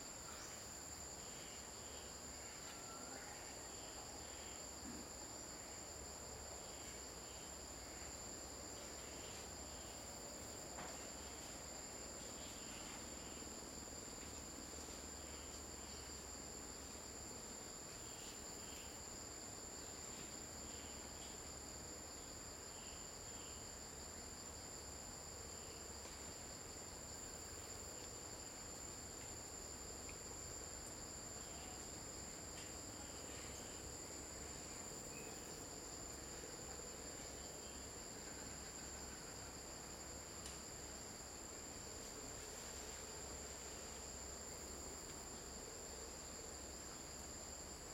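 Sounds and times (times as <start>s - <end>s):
insects calling: 0.0s - 47.9s.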